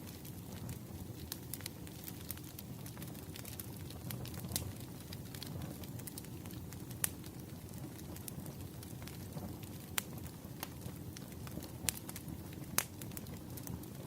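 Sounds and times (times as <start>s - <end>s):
fireplace fire crackling: 0.0s - 14.0s.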